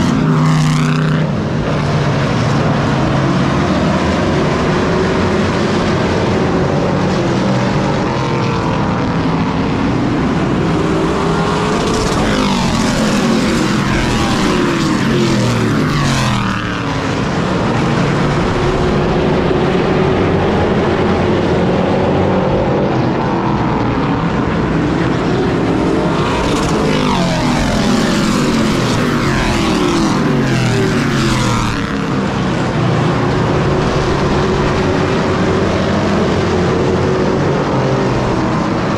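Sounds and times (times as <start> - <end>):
race truck engines: 0.0 - 38.9.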